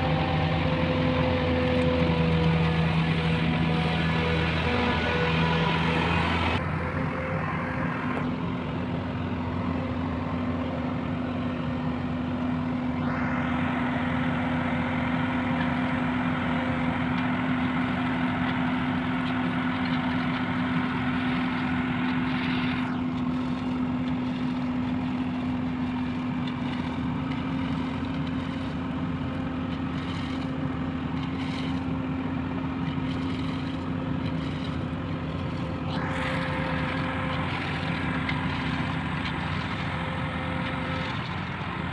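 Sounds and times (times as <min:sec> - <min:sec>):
heavy vehicle engine running: 0:00.0 - 0:41.9.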